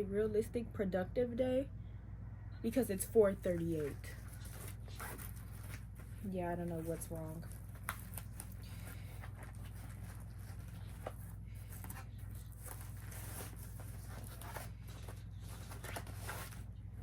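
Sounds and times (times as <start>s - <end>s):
steady low hum: 0.0s - 17.0s
rustling handling noises: 2.8s - 17.0s.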